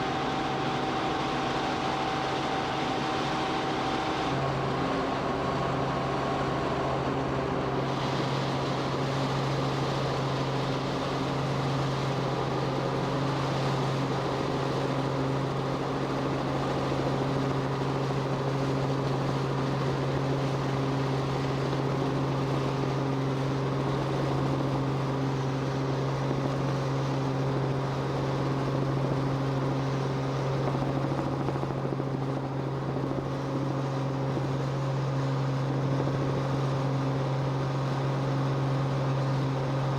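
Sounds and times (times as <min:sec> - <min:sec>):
aircraft drone in flight: 0:00.0 - 0:39.9.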